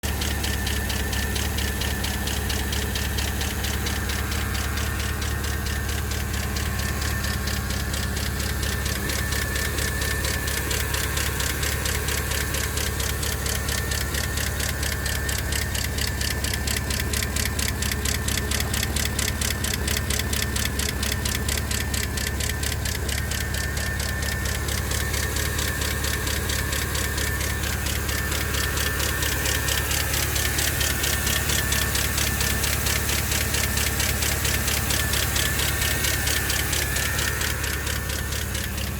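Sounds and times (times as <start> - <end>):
car engine idling: 0.0 - 38.9
rapid ticking from engine: 0.0 - 38.9.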